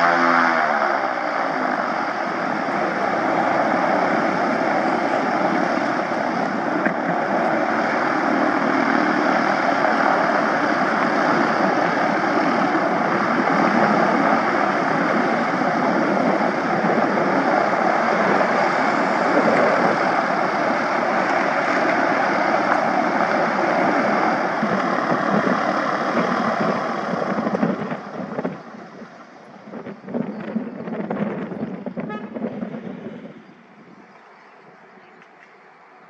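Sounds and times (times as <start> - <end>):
propeller aircraft engines: 0.0 - 36.0
wind buffeting microphone: 0.0 - 36.0.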